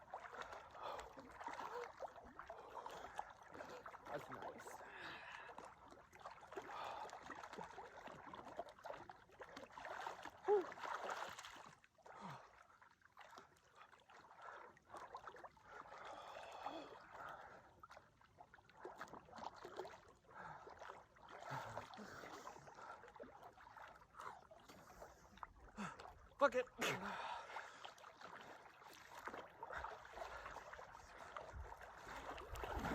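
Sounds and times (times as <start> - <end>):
water splashing and sloshing: 0.0 - 32.9.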